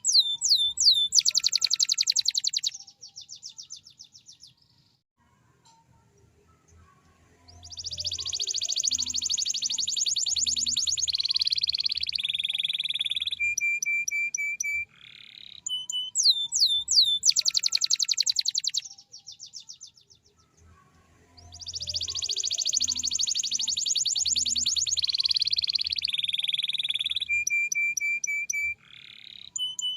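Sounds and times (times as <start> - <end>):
canary singing: 0.0 - 4.7, 6.5 - 29.9.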